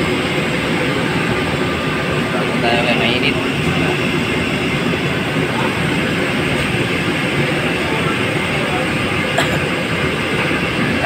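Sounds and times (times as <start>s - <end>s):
gas fire rushing: 0.0s - 11.0s.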